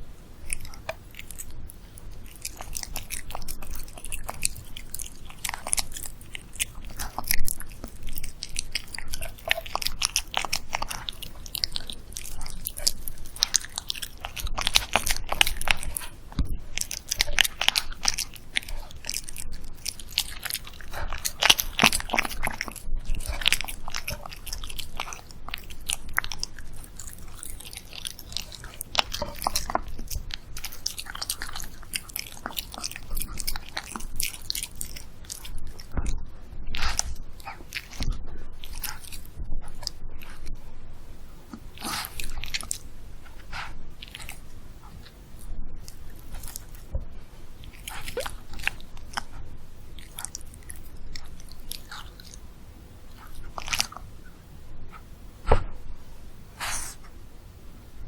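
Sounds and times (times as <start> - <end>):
dog chewing food: 0.0 - 55.9.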